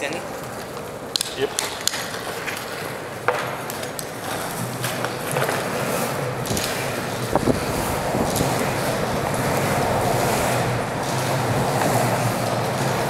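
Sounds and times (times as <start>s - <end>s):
longboard wheels rolling on concrete: 0.0s - 13.0s.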